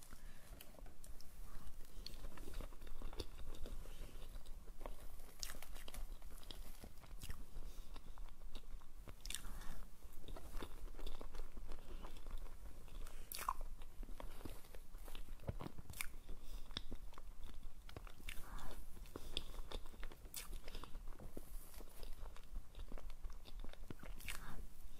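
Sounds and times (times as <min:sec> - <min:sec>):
wet chewing mouth sounds: 0:00.0 - 0:24.9.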